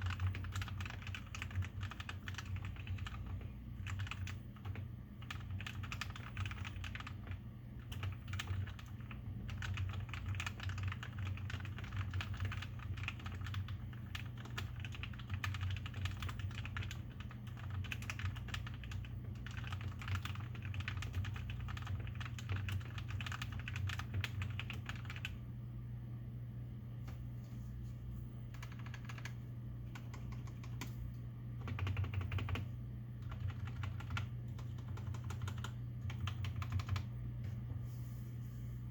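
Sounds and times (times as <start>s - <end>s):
typing on mechanical keyboard: 0.0s - 25.4s, 28.5s - 30.9s, 31.6s - 37.1s
steady low hum: 0.0s - 38.9s.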